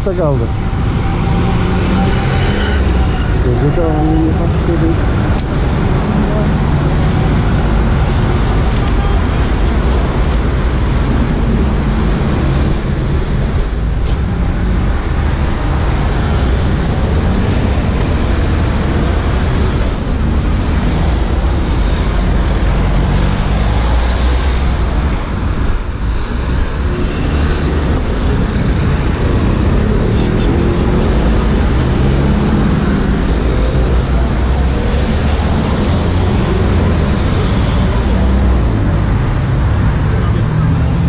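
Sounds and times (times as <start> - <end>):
city road traffic: 0.0 - 41.0.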